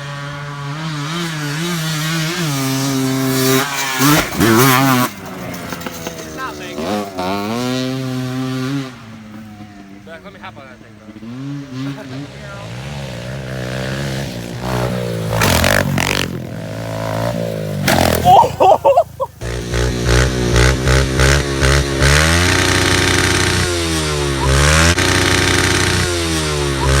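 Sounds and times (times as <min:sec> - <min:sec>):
pit bike engines revving: 0:00.0 - 0:27.0.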